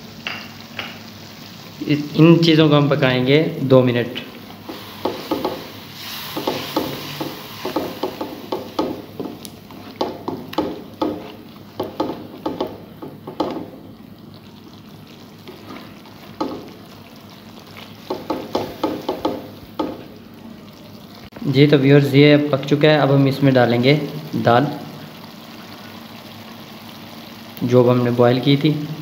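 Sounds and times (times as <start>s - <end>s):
faint oil sizzle: 0.0s - 29.0s.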